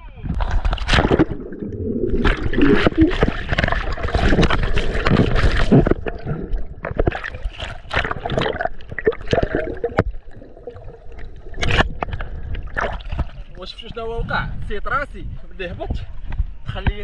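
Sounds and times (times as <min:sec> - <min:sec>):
water sloshing and gurgling: 0:00.2 - 0:17.0
water splashes: 0:00.3 - 0:14.0.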